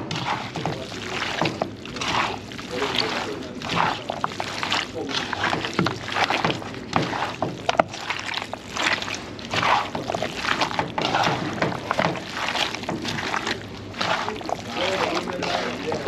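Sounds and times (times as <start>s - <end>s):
meat stirred in pot: 0.0s - 16.0s.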